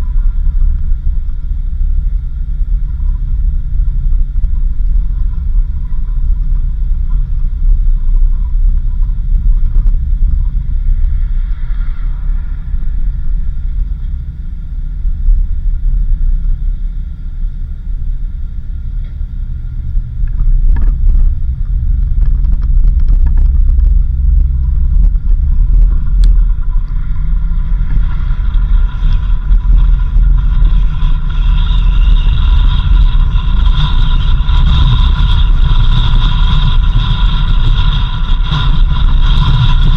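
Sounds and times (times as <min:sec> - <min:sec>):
engine and road rumble: 0:00.0 - 0:39.9
steady high whine: 0:00.0 - 0:39.9.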